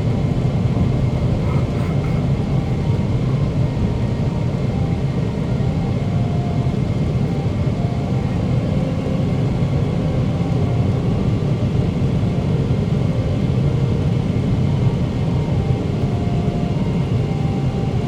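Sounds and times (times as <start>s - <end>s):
faint steady whine: 0.0s - 18.0s
jet engines droning: 0.0s - 18.0s.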